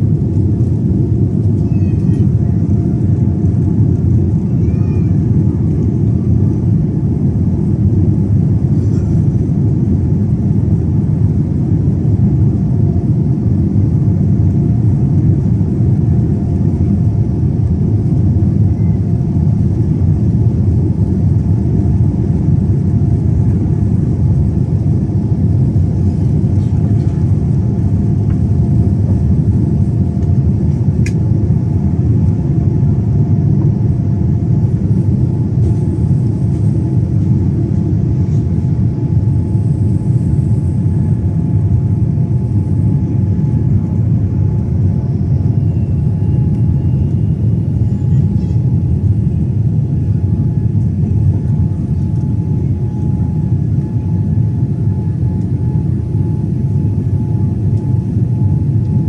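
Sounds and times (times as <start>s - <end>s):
jet engines at takeoff thrust: 0.0s - 59.0s.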